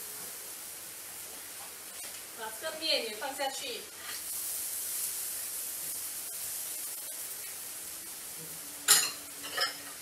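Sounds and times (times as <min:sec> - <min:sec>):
noodles sizzling in hot oil: 0:00.0 - 0:10.0.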